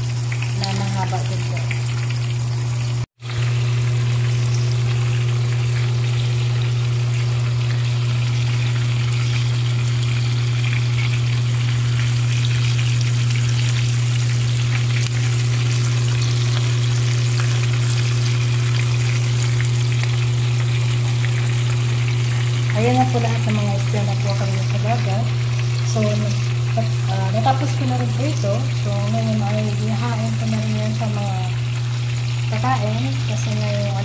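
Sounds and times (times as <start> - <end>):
fish frying in oil: 0.0 - 34.0.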